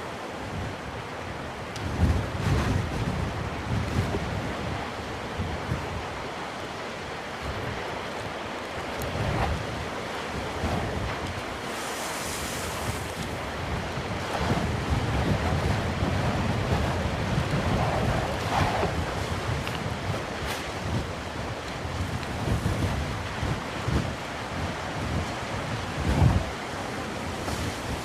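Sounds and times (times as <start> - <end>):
waves breaking on shore: 0.0 - 28.0
wind buffeting microphone: 0.0 - 28.0.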